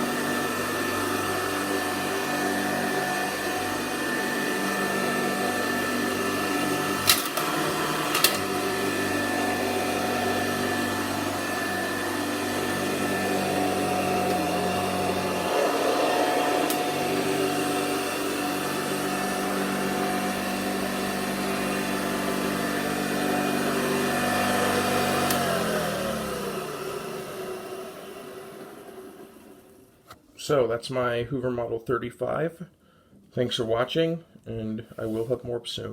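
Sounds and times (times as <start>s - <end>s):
vacuum cleaner motor running: 0.0s - 30.0s.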